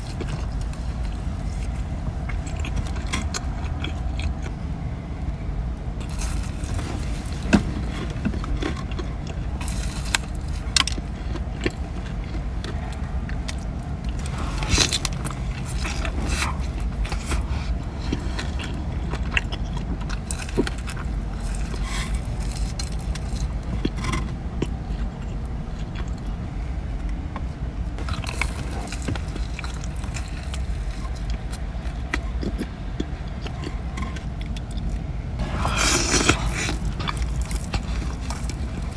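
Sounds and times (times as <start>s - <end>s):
chewing and biting: 0.0s - 27.3s, 28.0s - 38.9s
steady low rumble: 0.0s - 38.9s.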